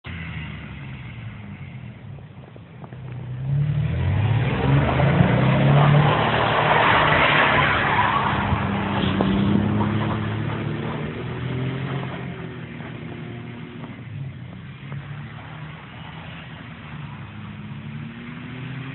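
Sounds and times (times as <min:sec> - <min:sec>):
truck engine revving: 0:03.2 - 0:18.9.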